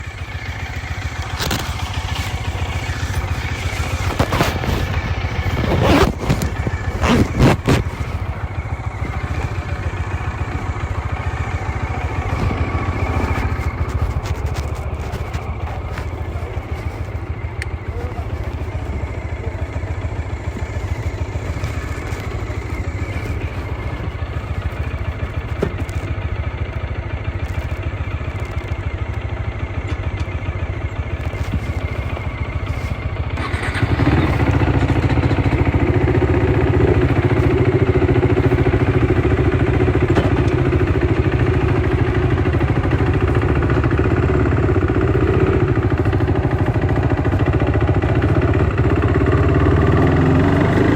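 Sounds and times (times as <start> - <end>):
motorcycle engine rumbling: 0.0 - 50.9.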